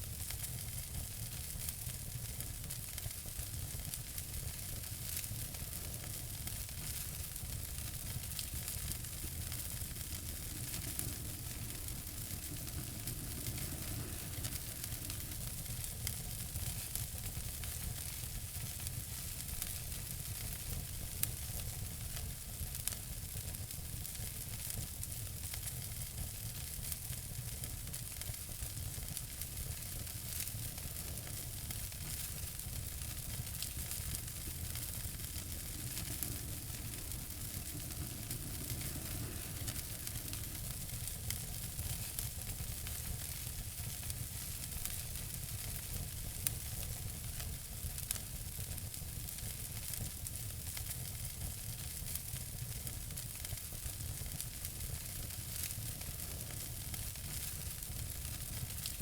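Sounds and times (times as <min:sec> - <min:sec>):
wood fire crackling: 0:00.0 - 0:59.0
fire pops: 0:03.9 - 0:22.3, 0:26.6 - 0:59.0.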